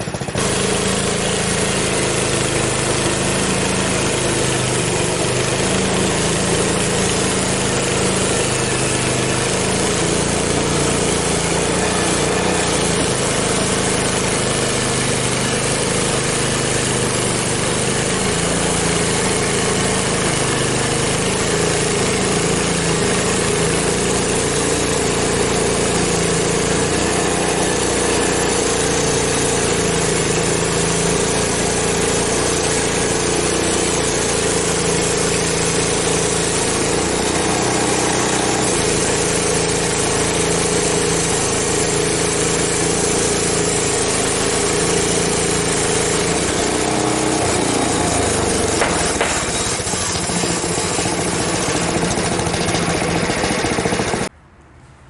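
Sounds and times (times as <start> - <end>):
band sawmill cutting log: 0.0 - 54.3.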